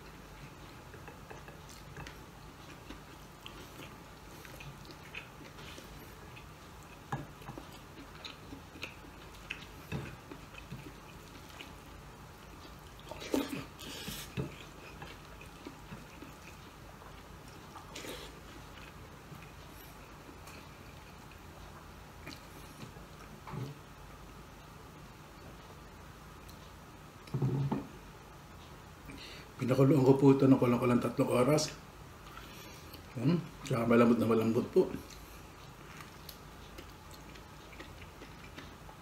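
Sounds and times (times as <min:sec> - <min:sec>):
man chewing: 0:00.0 - 0:29.6, 0:31.8 - 0:39.0.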